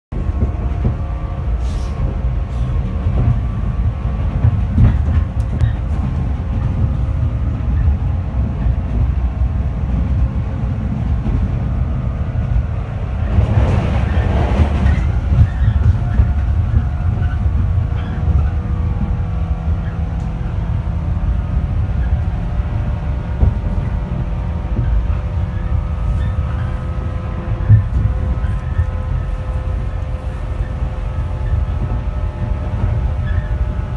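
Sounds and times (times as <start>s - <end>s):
train interior rumble: 0.0s - 33.9s.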